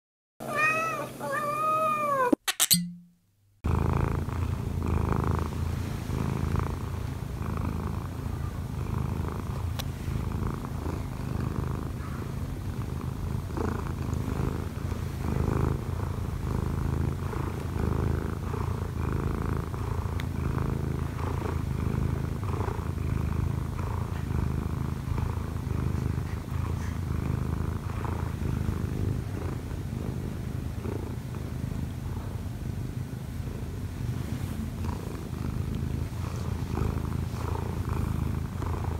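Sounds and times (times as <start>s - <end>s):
cat purring: 3.6s - 38.9s.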